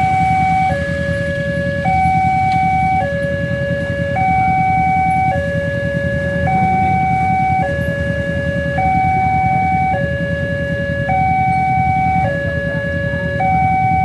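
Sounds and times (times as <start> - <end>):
electronic two-tone warning chime: 0.0 - 14.0.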